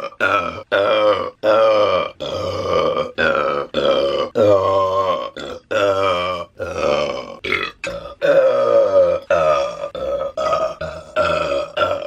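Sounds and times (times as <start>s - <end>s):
woman burping: 0.0s - 12.0s.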